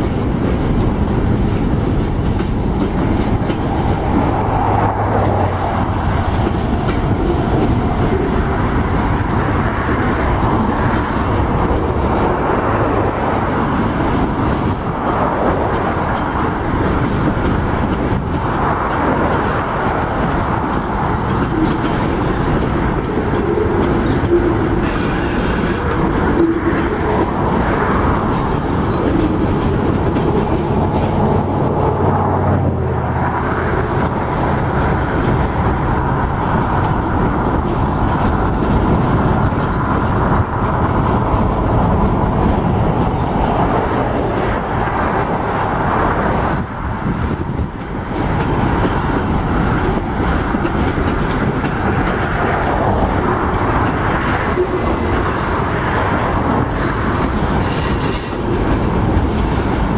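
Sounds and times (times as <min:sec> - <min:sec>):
steel wheels clattering on rails: 0:00.0 - 0:32.5, 0:33.5 - 0:59.9.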